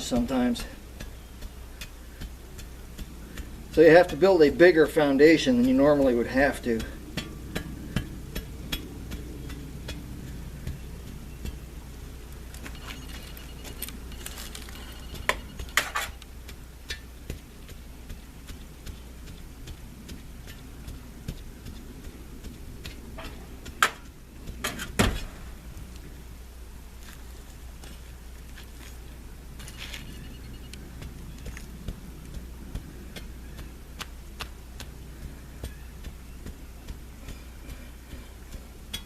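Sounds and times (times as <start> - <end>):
iron bar tamping clay: 0.0 - 25.5, 29.6 - 39.0.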